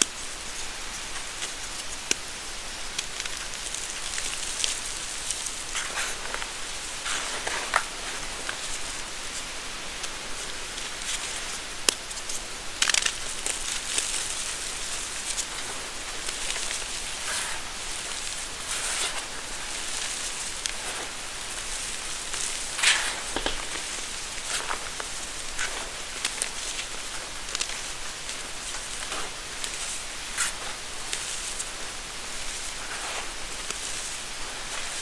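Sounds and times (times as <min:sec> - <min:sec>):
chalk crumbling between hands: 0:02.9 - 0:35.0.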